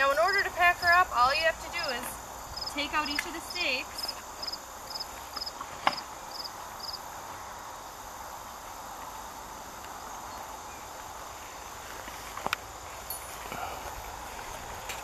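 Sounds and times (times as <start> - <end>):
insect chirping: 0.0 - 14.8
steady outdoor hiss: 0.0 - 15.0.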